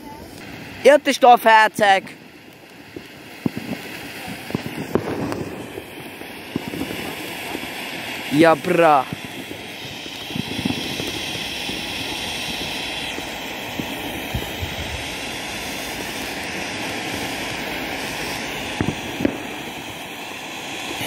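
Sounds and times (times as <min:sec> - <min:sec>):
firework fountain hissing: 0:00.0 - 0:21.0
sharp cracks: 0:01.4 - 0:21.0.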